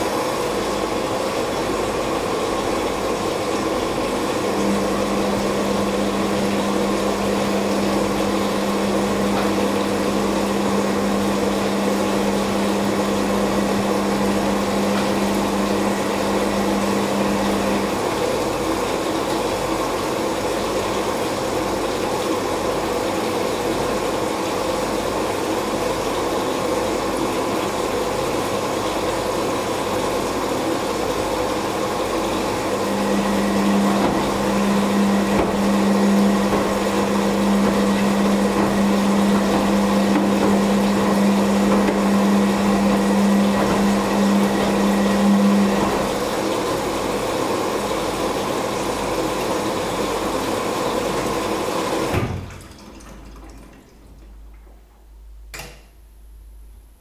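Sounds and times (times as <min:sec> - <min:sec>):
washing machine drum humming: 0:00.0 - 0:57.0.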